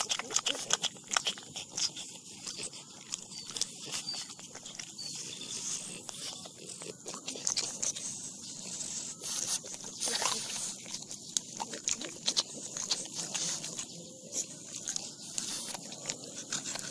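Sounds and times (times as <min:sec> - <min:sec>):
dog chewing leaves: 0:00.0 - 0:16.9.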